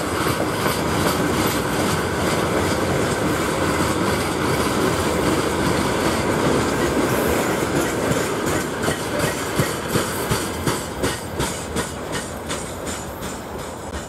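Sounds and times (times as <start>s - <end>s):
freight wagons rumbling on rails: 0.0s - 14.0s
wheels clicking over rail joints: 0.0s - 14.0s.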